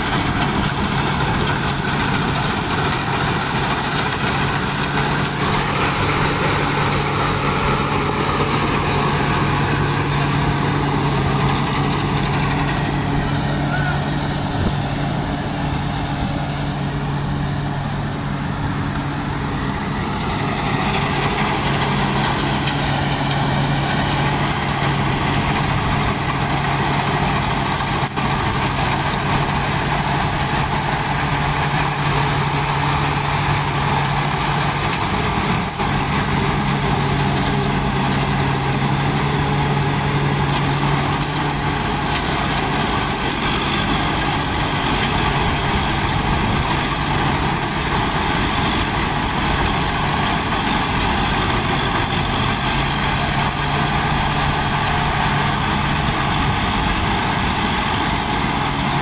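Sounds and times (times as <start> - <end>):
combine harvester engine hum: 0.0 - 59.0.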